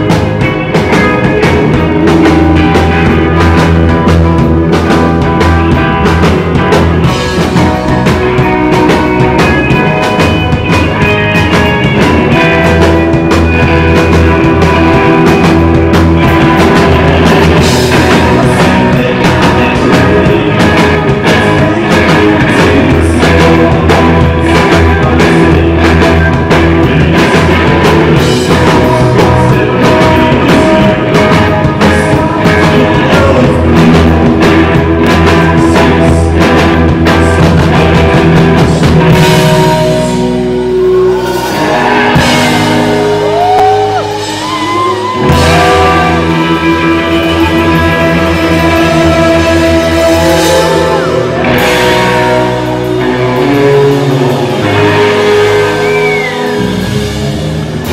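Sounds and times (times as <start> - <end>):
bass guitar: 0.0 - 57.9
drum kit: 0.0 - 57.9
electric guitars: 0.0 - 57.9.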